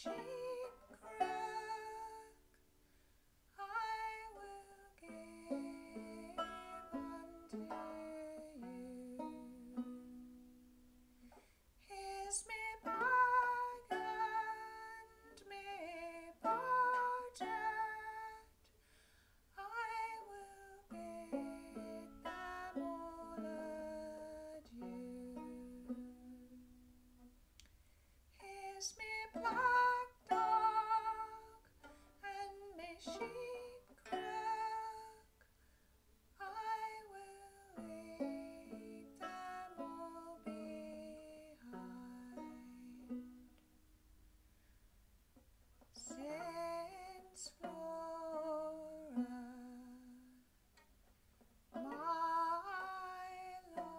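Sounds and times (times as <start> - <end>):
banjo playing: 0.0 - 2.5, 3.7 - 18.6, 19.6 - 27.4, 28.4 - 35.3, 36.4 - 44.0, 45.4 - 53.9
woman singing folk song: 0.0 - 2.6, 3.5 - 27.3, 28.3 - 35.6, 36.4 - 43.7, 45.8 - 50.9, 51.7 - 53.9.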